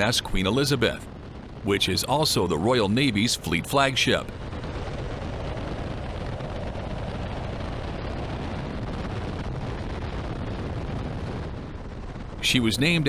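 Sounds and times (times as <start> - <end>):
steady rushing rumble: 0.0 - 13.0.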